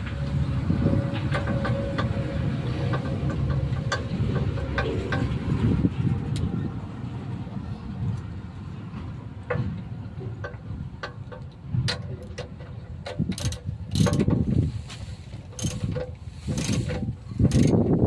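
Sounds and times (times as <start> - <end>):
metallic clicks and clanks: 0.0 - 6.5, 9.0 - 18.0
steady low rumble: 0.0 - 18.0.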